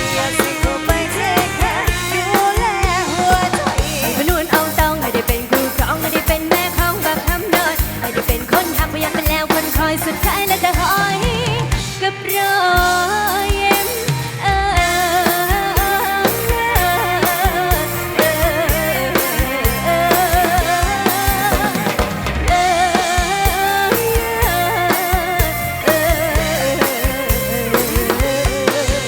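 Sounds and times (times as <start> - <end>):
drum kit beat: 0.0 - 29.0
live band playing pop: 0.0 - 29.0
wavering lead melody: 0.0 - 29.0.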